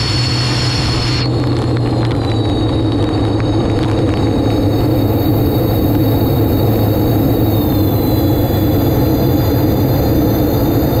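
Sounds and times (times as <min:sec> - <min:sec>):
steady high whine: 0:00.0 - 0:11.0
turbine engine running: 0:00.0 - 0:11.0.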